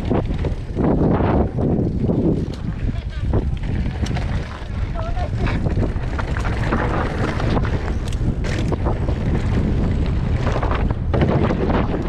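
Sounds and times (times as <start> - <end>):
bike knocks and rattles: 0.0 - 12.0
wind buffeting microphone: 0.0 - 12.0.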